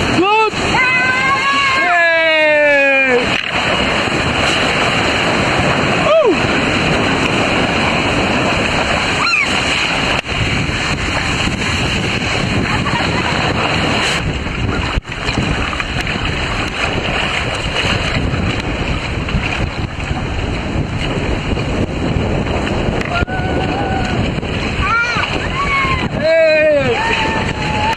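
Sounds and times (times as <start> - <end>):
water rushing on a slide: 0.0 - 27.9
wind buffeting microphone: 0.0 - 27.9.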